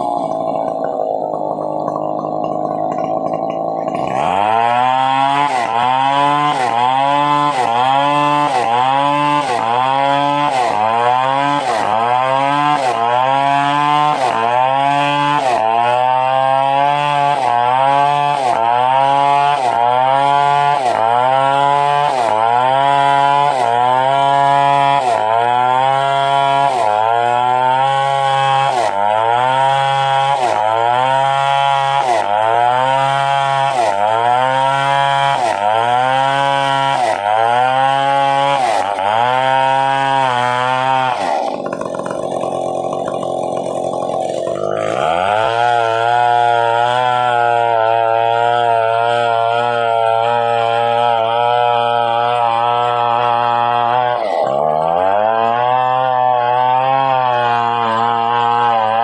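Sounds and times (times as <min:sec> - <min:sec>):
chainsaw cutting at high revs: 0:00.0 - 0:59.0.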